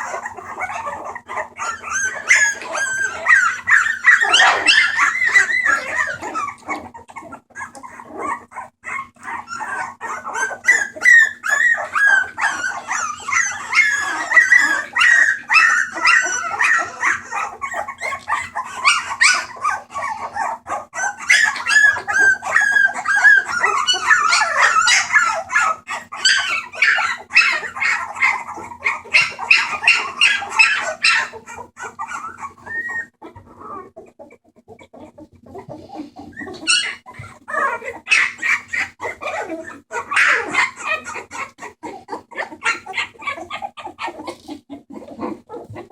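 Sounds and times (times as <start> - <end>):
puppies crying: 0.0 - 45.9.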